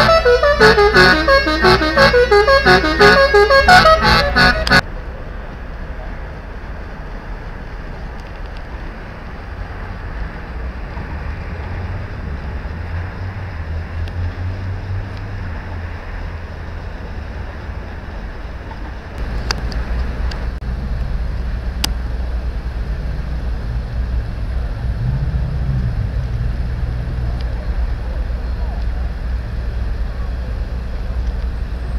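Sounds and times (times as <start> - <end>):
boat engine rumble: 0.0 - 31.9
wind: 0.0 - 31.9.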